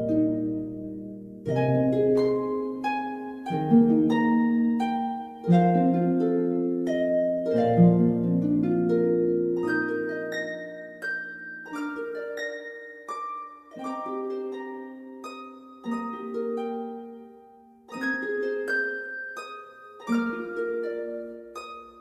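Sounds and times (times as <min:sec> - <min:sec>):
plucked string melody: 0:00.0 - 0:22.0.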